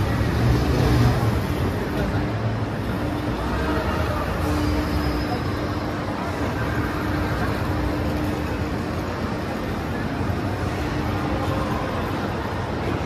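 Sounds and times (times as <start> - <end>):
low machinery hum: 0.0 - 13.0
people's voices: 0.0 - 13.0.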